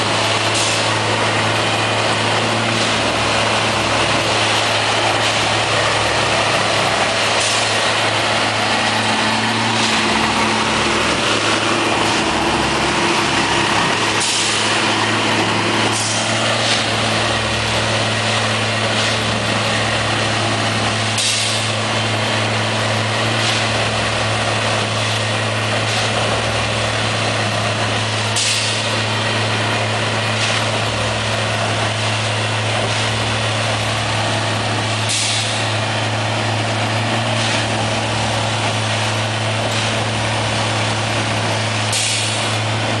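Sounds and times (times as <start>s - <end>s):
machine engine droning: 0.0s - 43.0s.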